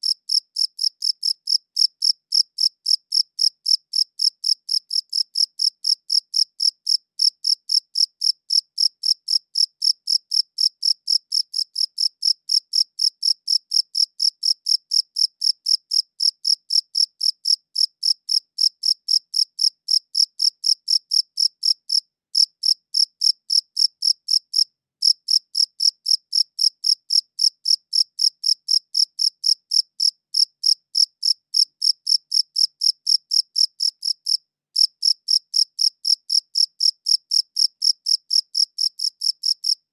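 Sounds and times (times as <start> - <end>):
cricket chirping: 0.0 - 39.8.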